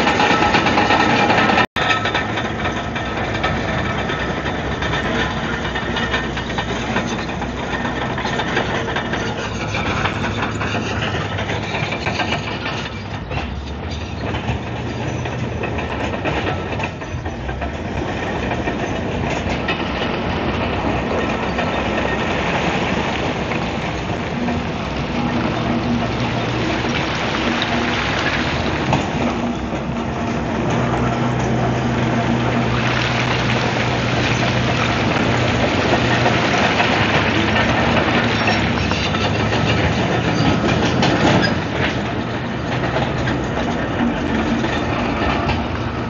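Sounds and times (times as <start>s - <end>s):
diesel engine under load: 0.0s - 46.0s
steel tracks clanking: 0.0s - 46.0s.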